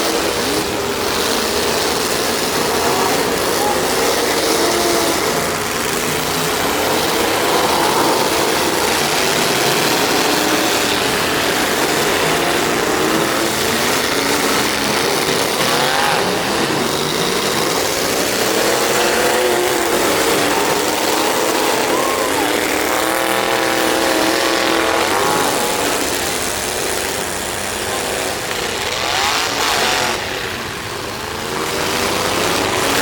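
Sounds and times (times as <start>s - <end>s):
truck engines revving: 0.0s - 33.0s.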